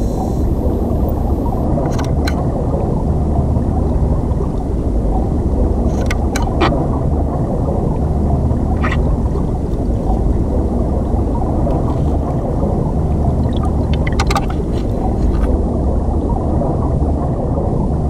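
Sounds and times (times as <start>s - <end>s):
underwater river rushing: 0.0s - 18.0s.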